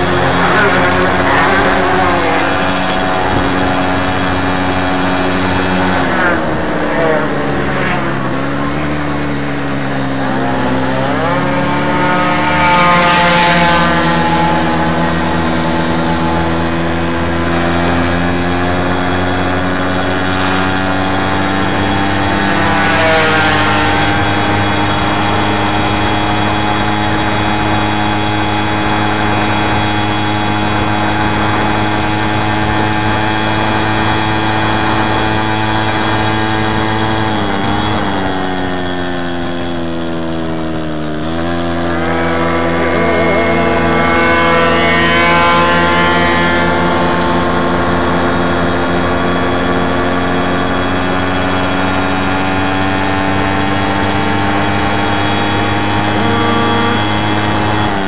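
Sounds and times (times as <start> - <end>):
moped two-stroke engine running: 0.0 - 58.0.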